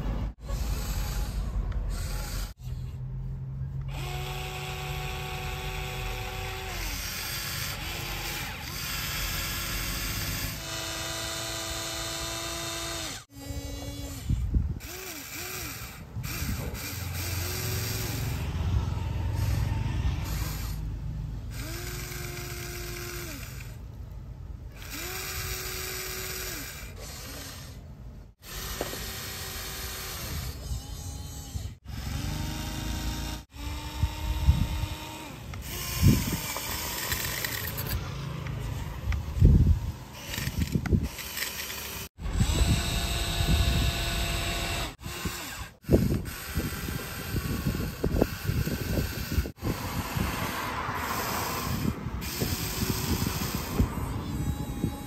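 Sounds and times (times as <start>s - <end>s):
toy electric motor whining: 0.4s - 3.0s, 3.8s - 23.9s, 24.7s - 55.0s.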